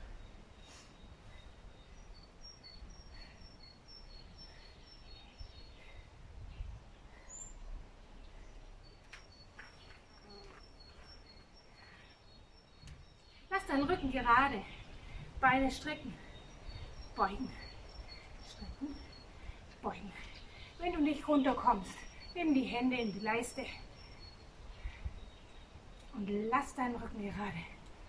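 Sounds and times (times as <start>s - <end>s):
quiet garden background noise: 0.0s - 28.0s
songbird singing: 0.0s - 28.0s.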